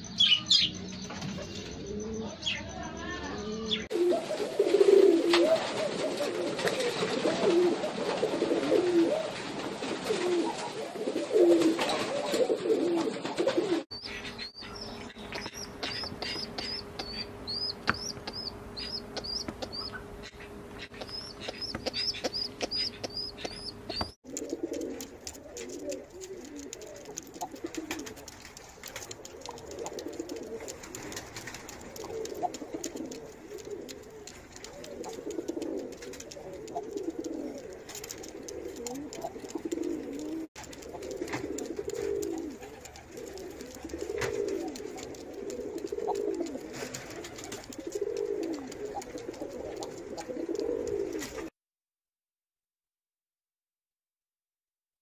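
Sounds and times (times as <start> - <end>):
pigeons cooing: 0.0 - 2.6, 3.3 - 51.5.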